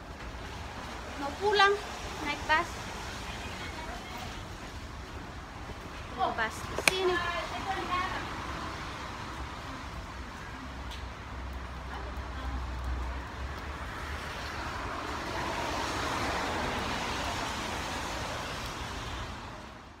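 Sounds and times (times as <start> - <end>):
passing vehicles: 0.0 - 20.0
road traffic rumble: 0.0 - 20.0.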